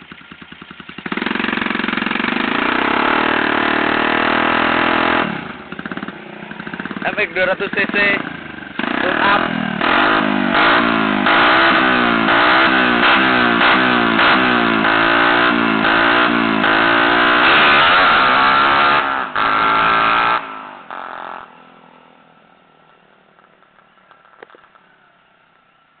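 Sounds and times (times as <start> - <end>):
motorbike engine at full throttle: 0.0 - 21.5.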